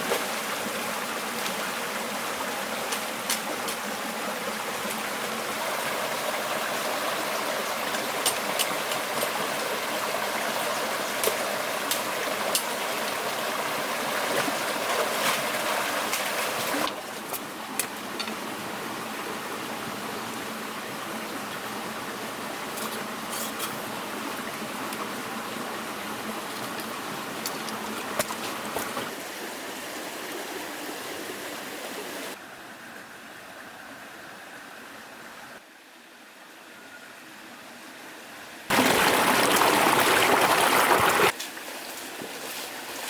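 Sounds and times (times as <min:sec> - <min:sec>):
forest stream running: 0:00.0 - 0:43.0.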